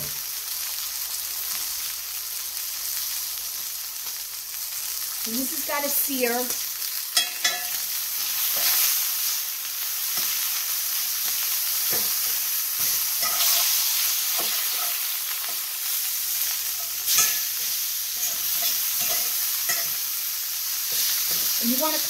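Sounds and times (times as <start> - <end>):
steak sizzling in skillet: 0.0 - 22.0.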